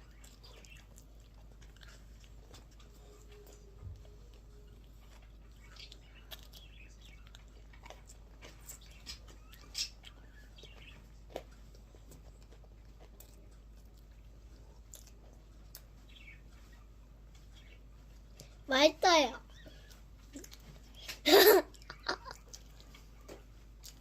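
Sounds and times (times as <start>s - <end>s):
child chewing crunchy wafer: 0.0s - 18.6s, 19.5s - 24.0s.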